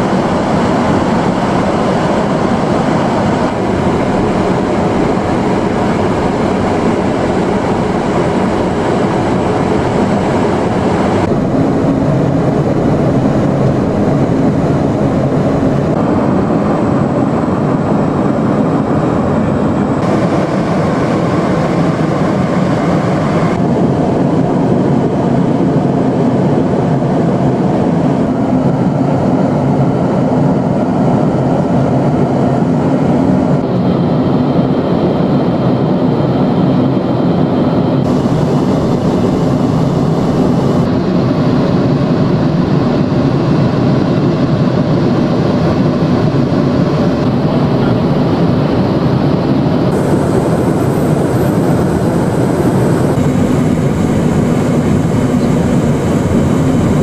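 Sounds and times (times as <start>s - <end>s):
jet cabin airflow rush: 0.0s - 57.0s
turbofan engines: 0.0s - 57.0s.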